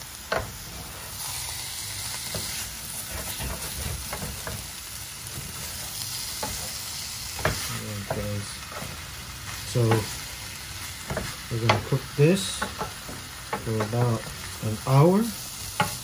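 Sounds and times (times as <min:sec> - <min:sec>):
chicken sizzling in a pan: 0:00.0 - 0:16.0
wooden spatula scraping a pan: 0:00.3 - 0:14.9.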